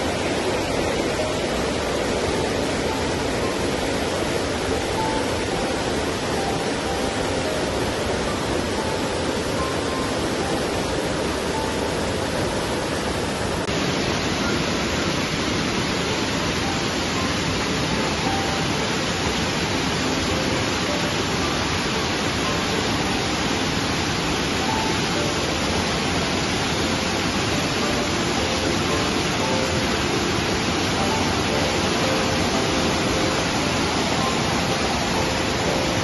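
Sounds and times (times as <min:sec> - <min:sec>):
stream rushing over rocks: 0:00.0 - 0:36.0.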